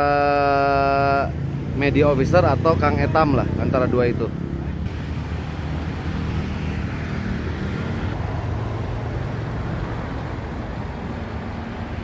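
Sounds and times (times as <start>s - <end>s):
car engines humming: 0.0s - 12.0s.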